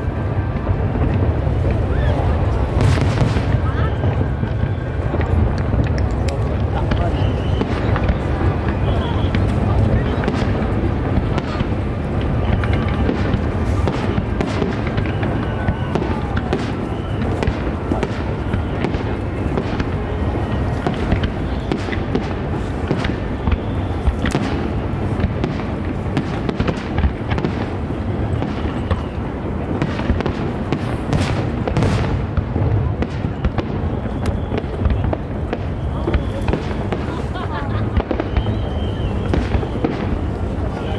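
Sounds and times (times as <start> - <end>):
fireworks booms and bangs: 0.0 - 40.9
fireworks crackling: 0.0 - 40.9.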